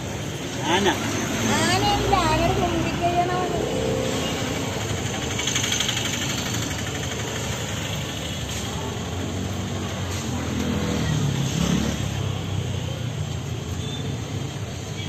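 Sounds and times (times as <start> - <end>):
vehicle engine passing close: 0.0 - 12.5
traffic rumble: 0.0 - 15.0.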